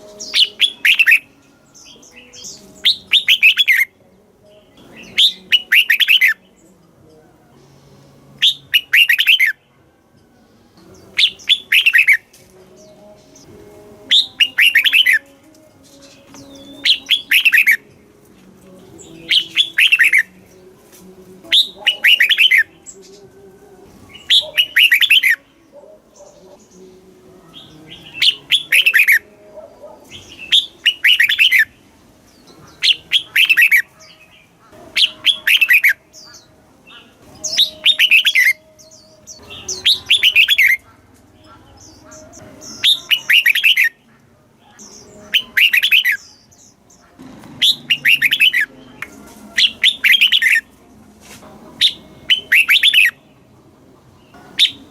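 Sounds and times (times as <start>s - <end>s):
bird singing: 0.0s - 50.8s, 51.8s - 54.9s.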